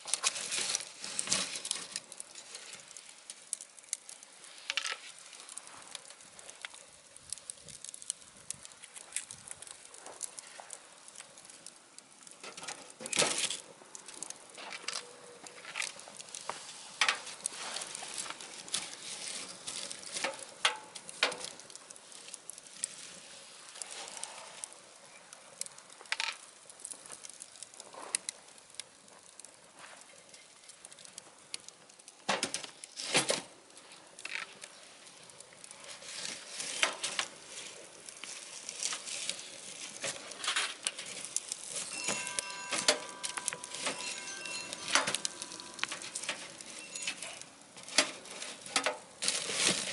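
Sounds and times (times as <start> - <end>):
wood fire crackling in a stove: 0.0 - 49.9.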